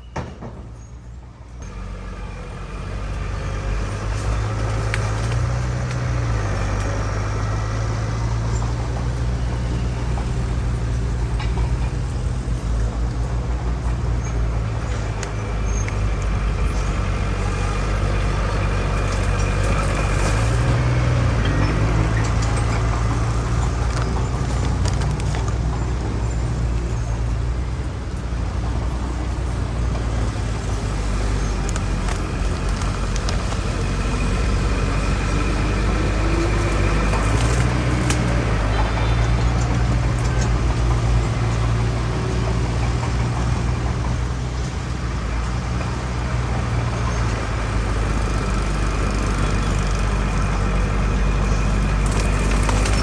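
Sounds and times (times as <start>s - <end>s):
heavy diesel engine drone: 1.2s - 53.0s.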